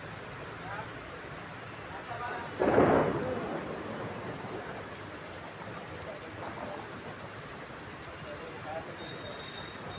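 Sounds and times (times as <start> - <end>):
brief rush of rain: 0.0 - 9.9
steady rain: 0.0 - 9.9.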